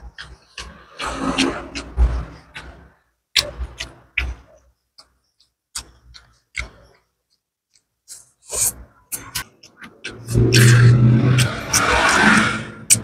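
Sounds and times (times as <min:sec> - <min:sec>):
mouth chewing with smacks: 0:00.0 - 0:12.0.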